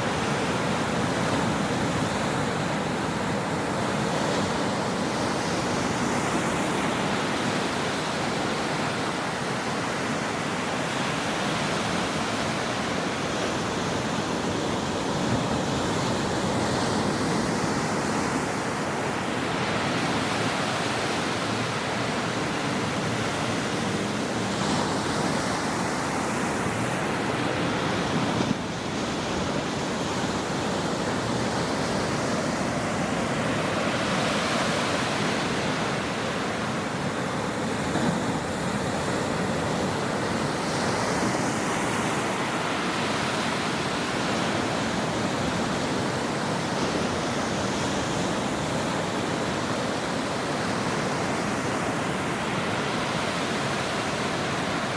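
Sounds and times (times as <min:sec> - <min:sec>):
waves breaking on shore: 0:00.0 - 0:54.9.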